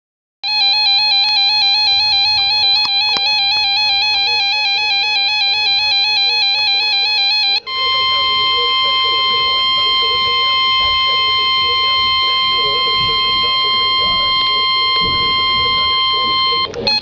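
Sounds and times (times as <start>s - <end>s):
fluttering electronic alarm tone: 0.4s - 17.0s.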